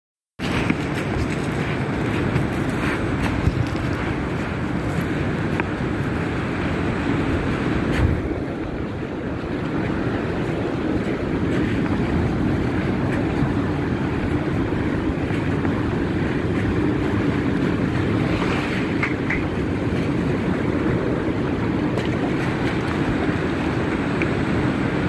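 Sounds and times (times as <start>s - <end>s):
ocean surf breaking: 0.4s - 25.0s
wind buffeting microphone: 0.4s - 25.0s.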